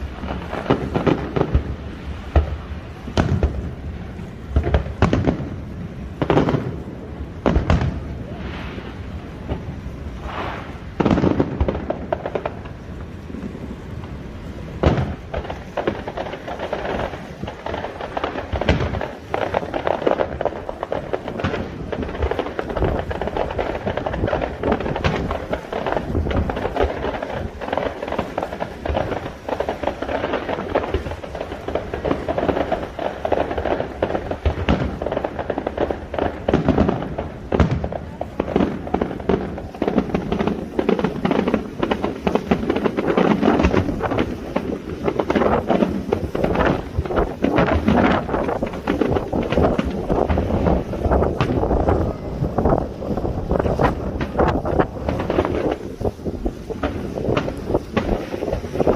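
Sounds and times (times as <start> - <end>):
fireworks bangs and crackles: 0.0 - 58.9
loud fireworks booms: 0.0 - 58.9.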